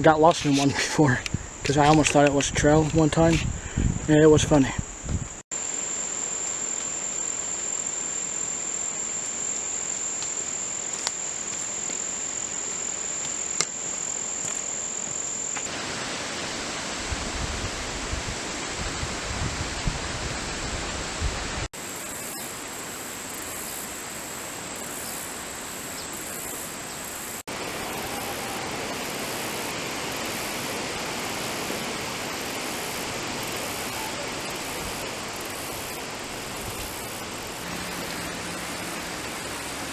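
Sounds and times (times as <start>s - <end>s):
insects trilling: 0.0s - 16.0s, 21.8s - 39.9s
outdoor hiss: 0.0s - 39.9s.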